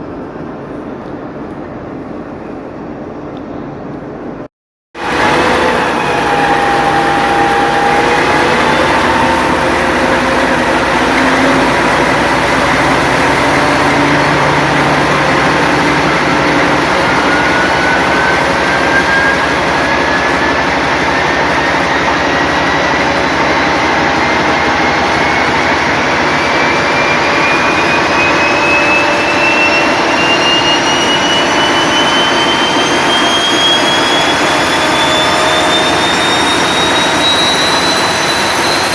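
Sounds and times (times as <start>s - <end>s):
diesel locomotive engine running: 5.0s - 38.9s
turbocharger whistle rising: 5.0s - 38.9s.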